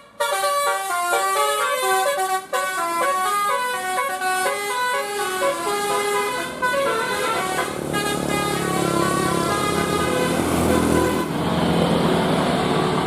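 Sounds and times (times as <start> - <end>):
bus horn playing a tune: 0.0 - 11.4.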